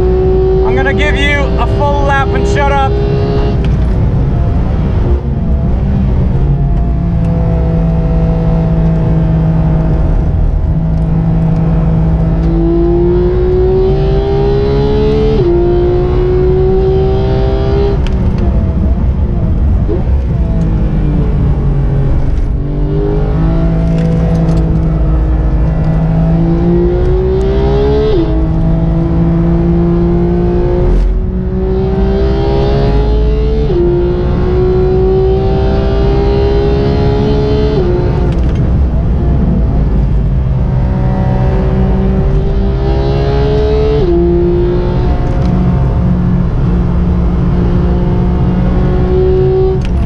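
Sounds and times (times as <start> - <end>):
car engine at full throttle: 0.0 - 50.0.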